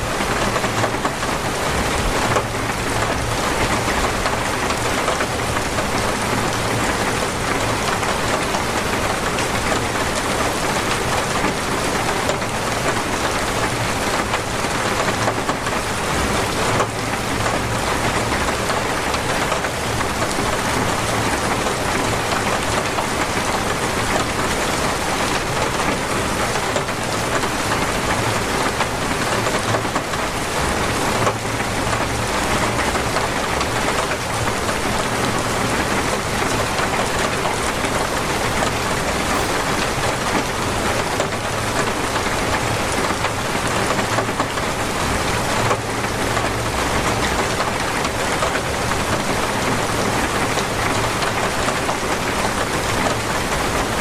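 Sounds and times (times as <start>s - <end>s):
torrential rain: 0.0s - 54.0s.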